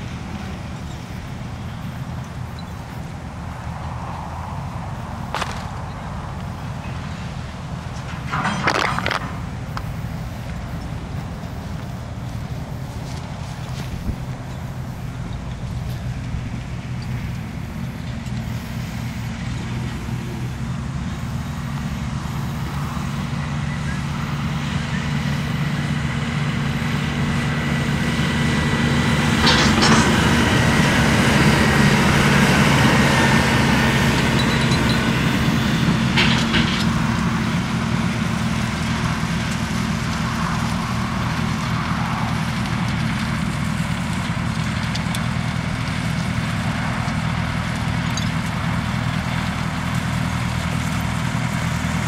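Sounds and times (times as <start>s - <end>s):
diesel engine under load: 0.0s - 52.0s.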